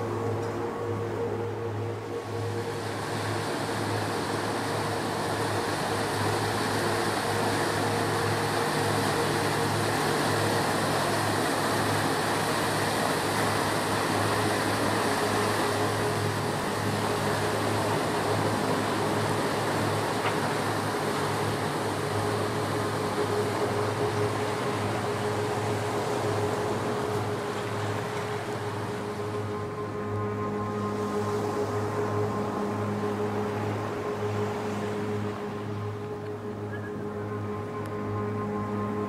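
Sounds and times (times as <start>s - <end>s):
machinery humming: 0.0s - 39.0s.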